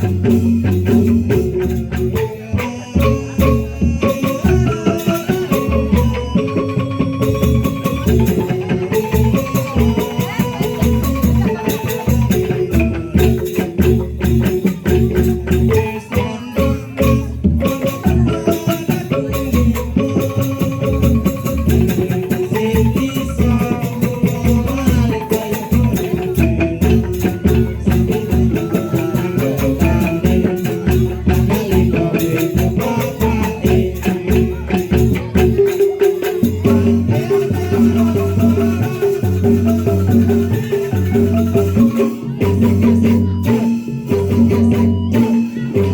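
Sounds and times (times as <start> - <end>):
mallet-struck melody: 0.0 - 45.9
rattling percussion: 0.0 - 45.9.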